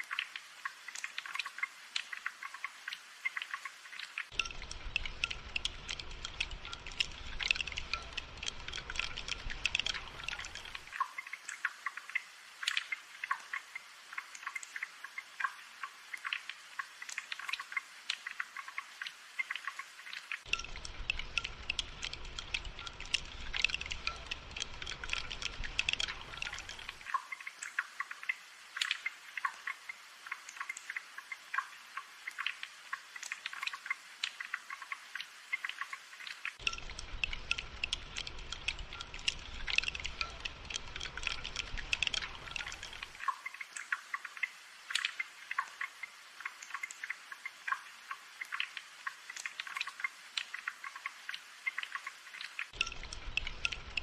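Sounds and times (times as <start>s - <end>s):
rain patter: 0.0s - 54.0s.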